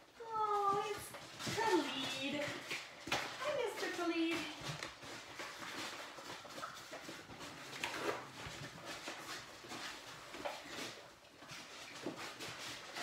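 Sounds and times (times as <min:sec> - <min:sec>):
puppies eating from bowls: 0:00.0 - 0:13.0
small clicks and scrapes on wooden floor: 0:00.6 - 0:13.0.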